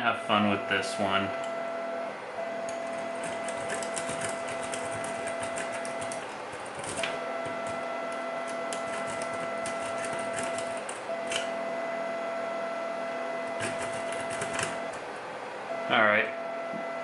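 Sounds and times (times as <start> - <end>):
printer whine: 0.0 - 17.0.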